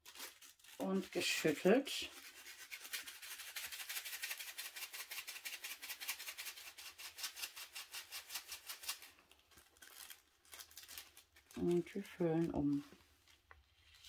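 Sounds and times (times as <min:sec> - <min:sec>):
beads rattling in plastic bag: 0:00.0 - 0:07.2, 0:08.0 - 0:12.9.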